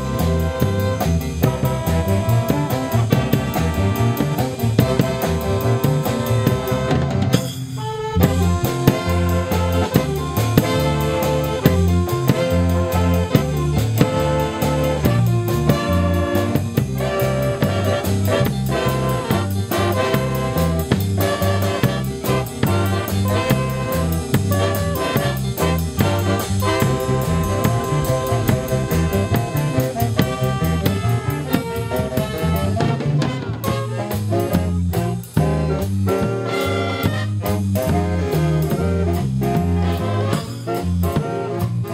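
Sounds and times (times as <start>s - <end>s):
bass line: 0.0s - 41.9s
lively instrumental music: 0.0s - 41.9s
steady drum beat: 0.0s - 41.9s.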